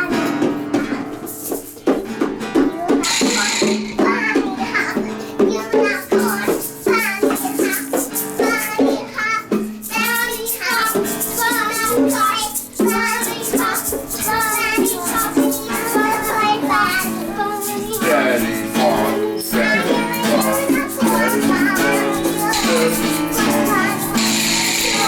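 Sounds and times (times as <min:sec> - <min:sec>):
child singing: 0:00.0 - 0:25.0
instrumental accompaniment: 0:00.0 - 0:25.0.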